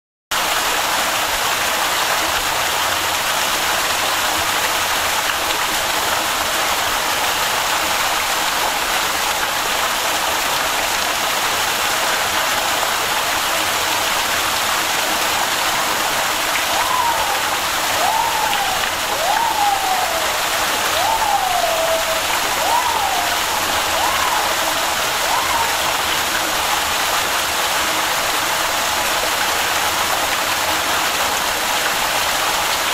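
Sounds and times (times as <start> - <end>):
running water rushing: 0.4 - 32.9.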